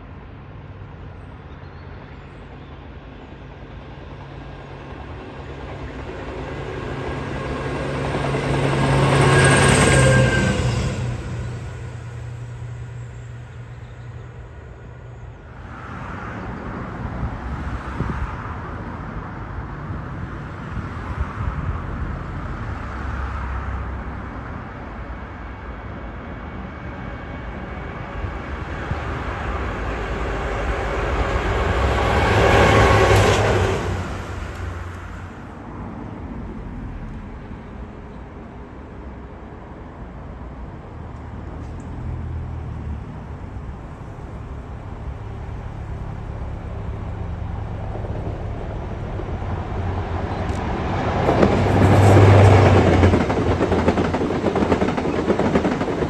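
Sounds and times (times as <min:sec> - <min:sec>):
rail vehicle passing: 0:00.0 - 0:56.0
track machine diesel engine and wheels: 0:00.0 - 0:56.0.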